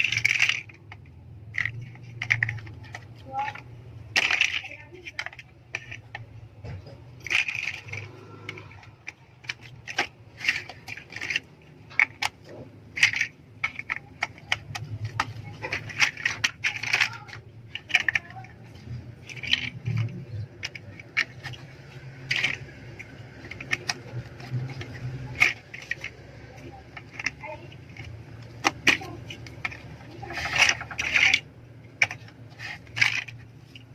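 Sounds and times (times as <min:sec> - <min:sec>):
plastic bricks clicking together: 0:00.0 - 0:33.9
plastic pieces clattering: 0:00.0 - 0:33.9.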